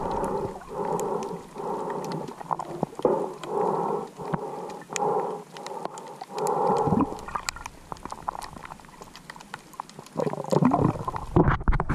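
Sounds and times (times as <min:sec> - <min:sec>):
muffled underwater rushing: 0:00.0 - 0:11.9
sharp clicks and crackles: 0:00.0 - 0:11.9.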